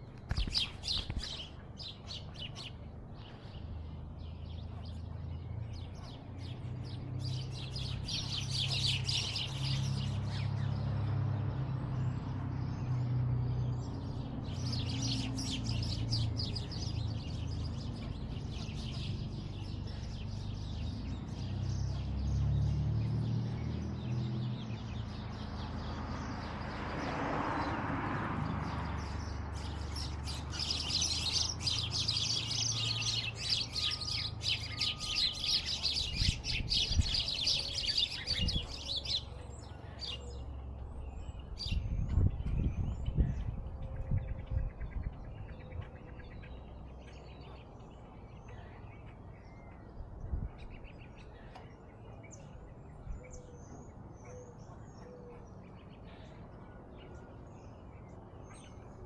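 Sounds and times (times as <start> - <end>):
small birds twittering: 0.0 - 59.0.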